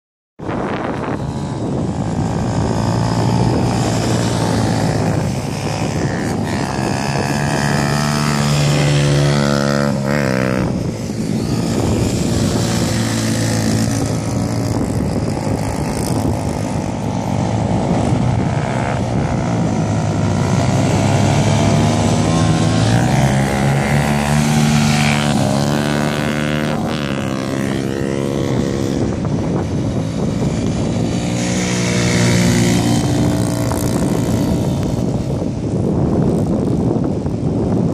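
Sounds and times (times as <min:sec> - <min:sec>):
motorcycle engines revving: 0:00.4 - 0:37.9
wind and surf rushing: 0:00.4 - 0:37.9.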